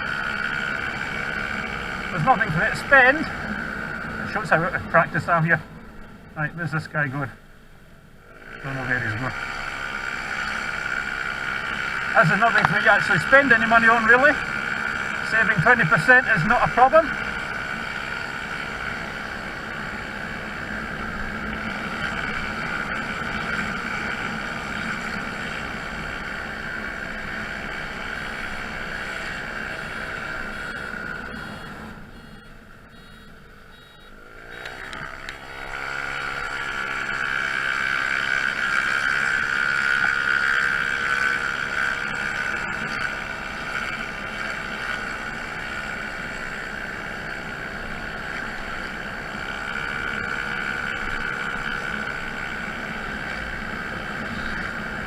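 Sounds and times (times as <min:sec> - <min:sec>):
scooter engine running: 0:00.0 - 0:06.6, 0:07.4 - 0:55.0.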